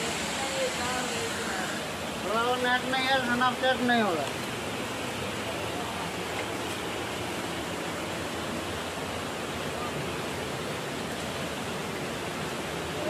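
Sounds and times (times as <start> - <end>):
small waterfall rushing: 0.0 - 13.0
stream pouring over rocks: 0.0 - 13.0.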